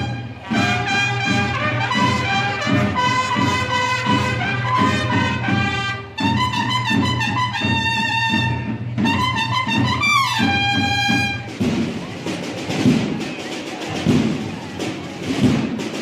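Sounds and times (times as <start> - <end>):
marching brass band: 0.0 - 16.0
street noise: 0.0 - 16.0.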